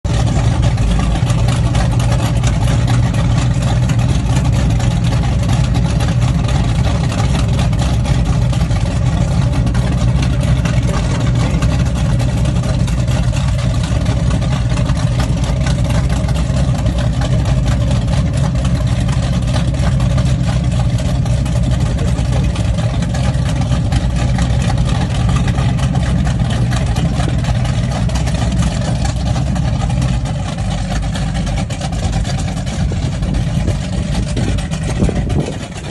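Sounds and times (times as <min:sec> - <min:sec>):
boat engines running: 0:00.0 - 0:35.9.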